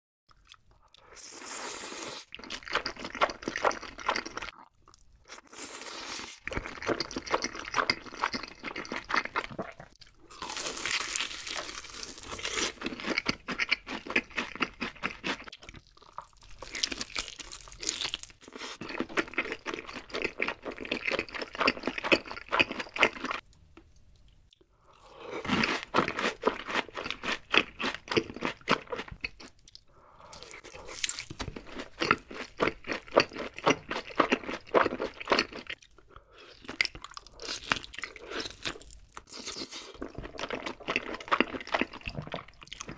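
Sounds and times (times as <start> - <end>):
crunchy chewing of fried food: 0.3 - 23.5, 24.2 - 42.9.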